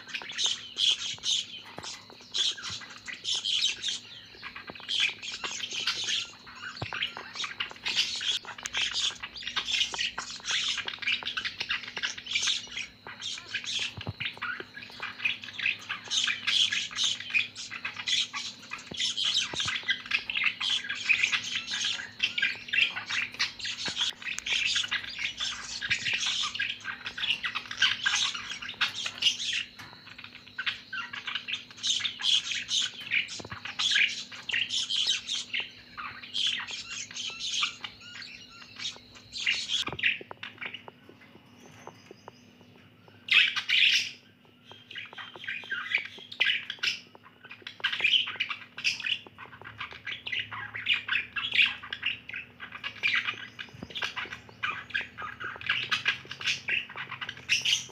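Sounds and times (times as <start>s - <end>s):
budgerigars chirping and squawking: 0.0s - 57.9s.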